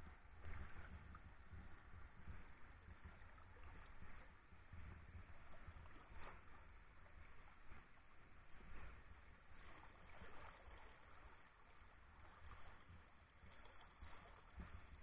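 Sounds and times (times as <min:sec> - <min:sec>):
person wading through stream: 0:00.2 - 0:15.0.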